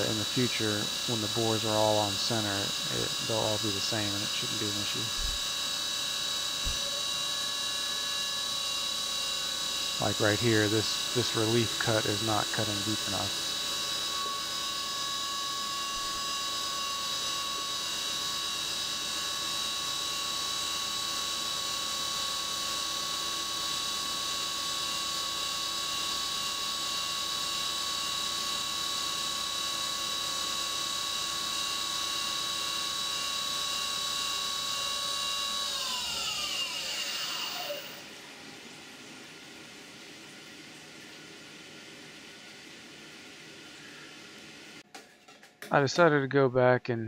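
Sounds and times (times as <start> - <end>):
coolant hissing and splashing: 0.0 - 32.8, 36.3 - 44.8
mill spindle high-pitched whine: 0.0 - 42.5.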